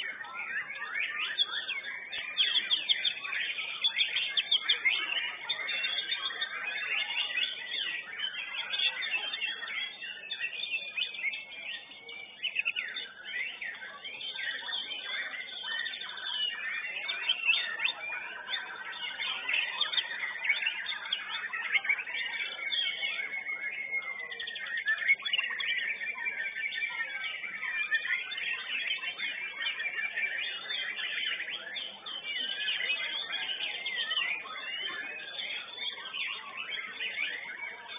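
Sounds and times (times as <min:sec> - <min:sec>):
songbird singing whistles and trills: 0:00.0 - 0:37.9.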